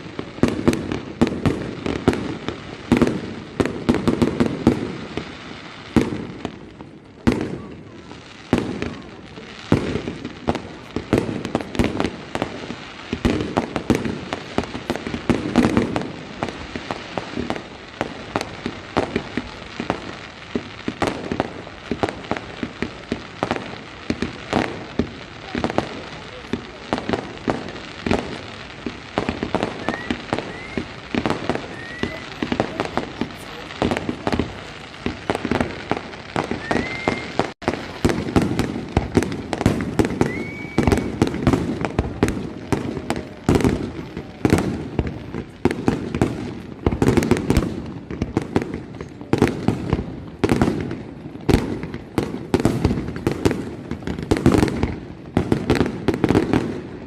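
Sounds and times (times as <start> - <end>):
fireworks bursting: 0.0 - 57.0
rising firework whistles: 7.2 - 56.9.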